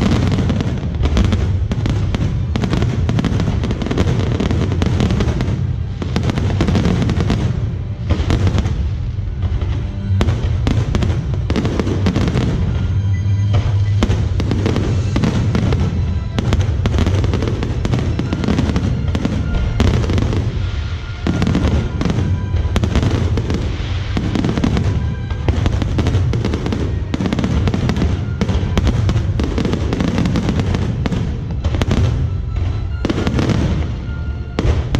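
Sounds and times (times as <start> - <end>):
low rumble: 0.0 - 29.9
fireworks bangs and crackles: 0.0 - 34.9.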